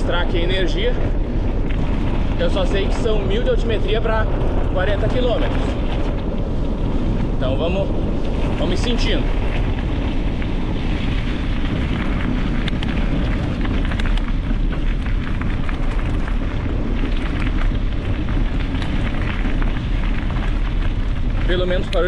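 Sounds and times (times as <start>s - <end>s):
bicycle tyres crackling on trail: 0.0s - 22.0s
bike rattling: 0.0s - 22.0s
wind buffeting microphone: 0.0s - 22.0s.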